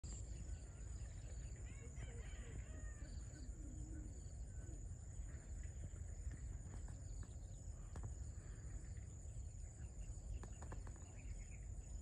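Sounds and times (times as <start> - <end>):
low rumbling background noise: 0.0 - 12.0
faint bird calls: 0.1 - 12.0.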